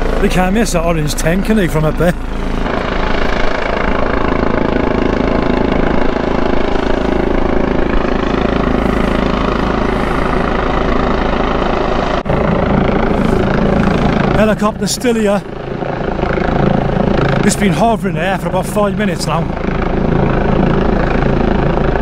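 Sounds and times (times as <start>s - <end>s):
helicopter hovering drone: 0.0s - 22.0s.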